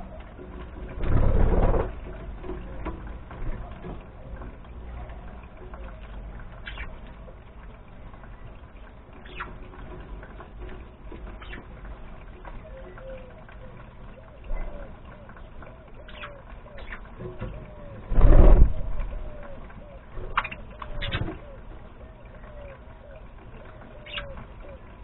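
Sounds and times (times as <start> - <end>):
birds pecking at leaves: 0.0 - 25.0
wings fluttering: 0.0 - 25.0.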